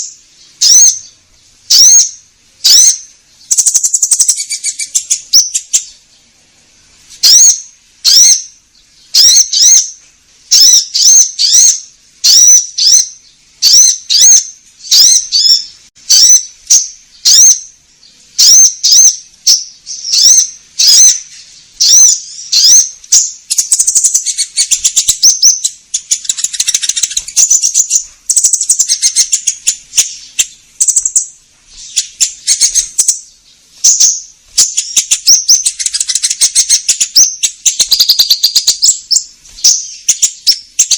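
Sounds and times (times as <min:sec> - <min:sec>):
songbird chirping and twittering: 0:00.0 - 0:40.9.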